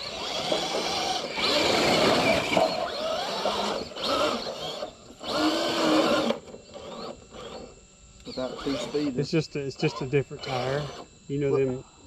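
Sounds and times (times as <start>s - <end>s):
rc truck motor whining: 0.0s - 11.8s.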